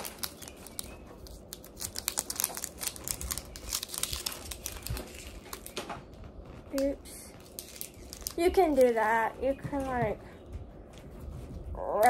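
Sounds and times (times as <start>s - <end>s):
crinkly packaging crackling: 0.0s - 10.3s.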